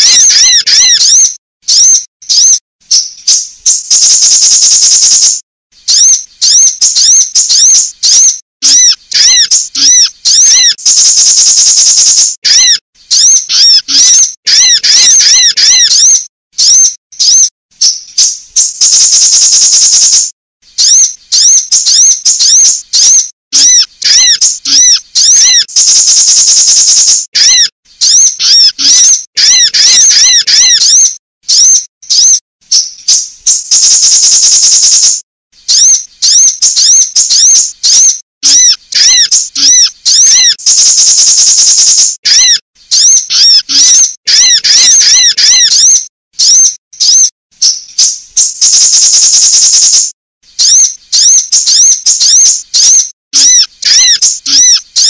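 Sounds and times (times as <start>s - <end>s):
buzzy bird trill: 0.0s - 55.0s
high-pitched bird chirps: 0.0s - 55.0s.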